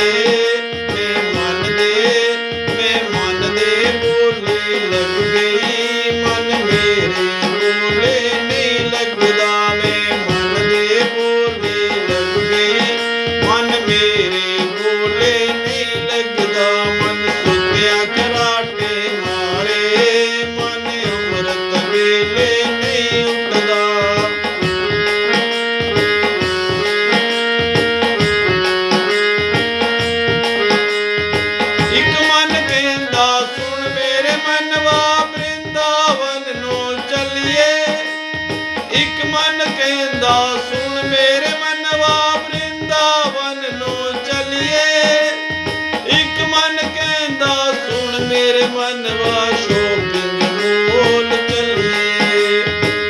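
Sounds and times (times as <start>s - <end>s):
repeating melody line: 0.0s - 53.0s
tabla rhythm: 0.0s - 53.0s.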